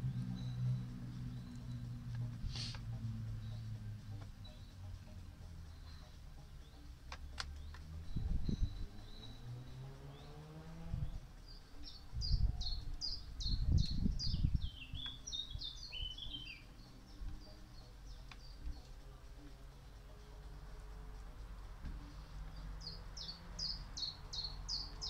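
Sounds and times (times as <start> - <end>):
songbird singing and trilling: 0.0 - 25.0.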